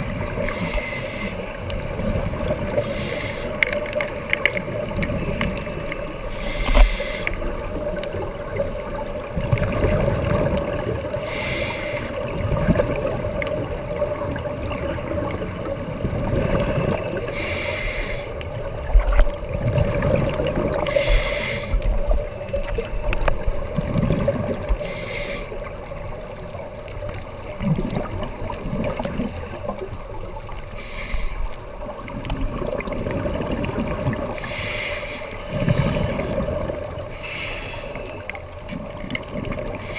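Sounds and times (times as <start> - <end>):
exhaled bubbles underwater: 0.0 - 39.9
gurgling water: 0.0 - 39.9.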